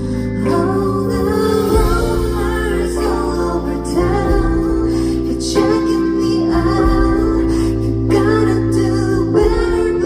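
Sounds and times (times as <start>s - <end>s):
live pop band playing: 0.0s - 10.0s
woman singing: 0.0s - 10.0s.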